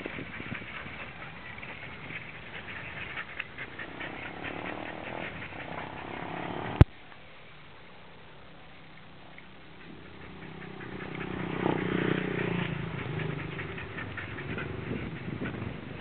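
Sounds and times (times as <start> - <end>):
light ticking and pattering: 0.0 - 7.2, 8.8 - 16.0.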